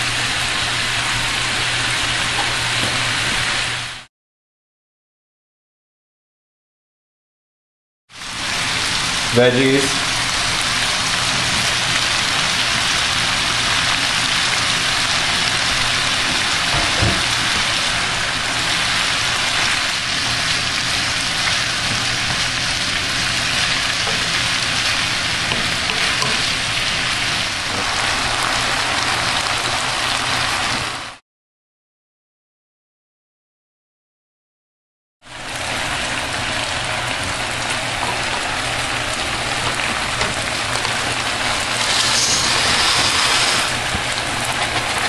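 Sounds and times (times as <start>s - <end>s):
food sizzling in a frying pan: 0.0s - 4.1s, 8.2s - 31.2s, 35.3s - 45.0s.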